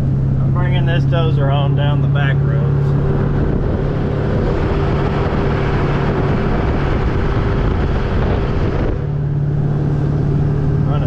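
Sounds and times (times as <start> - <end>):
tyre and road noise: 0.0 - 11.0
vehicle engine drone: 0.0 - 11.0.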